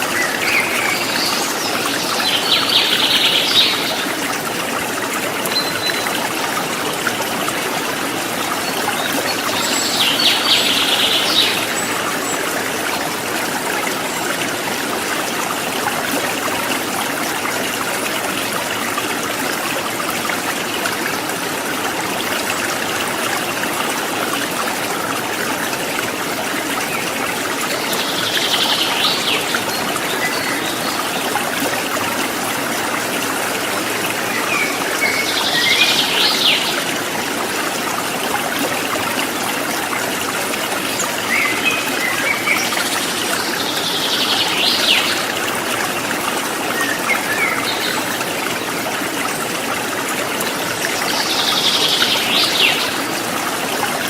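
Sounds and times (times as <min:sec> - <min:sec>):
river water over stones: 0:00.0 - 0:54.0.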